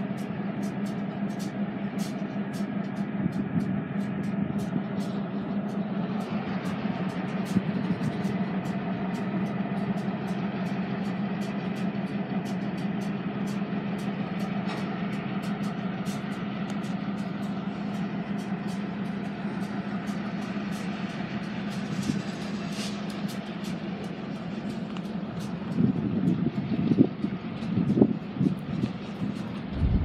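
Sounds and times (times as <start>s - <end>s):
diesel locomotive droning: 0.0s - 30.0s
light clicking of train wheels: 0.0s - 30.0s.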